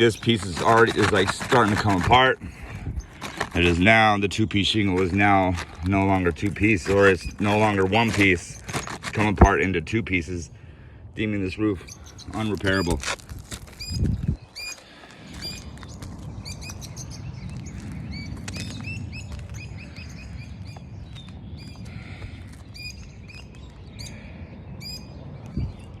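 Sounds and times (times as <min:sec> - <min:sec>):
birds chirping: 0:00.0 - 0:10.4, 0:11.2 - 0:13.0, 0:13.7 - 0:26.0.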